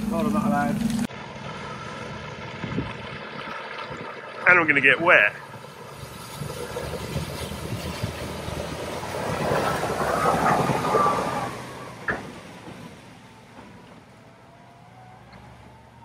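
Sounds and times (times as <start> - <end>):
vehicle engine: 0.0 - 16.0
water washing past vehicle: 0.0 - 16.0.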